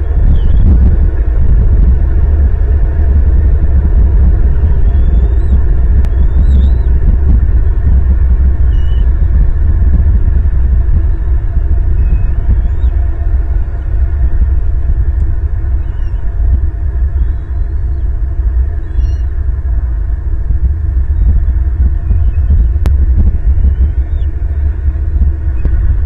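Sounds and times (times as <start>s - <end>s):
loud low rumble: 0.0s - 26.0s.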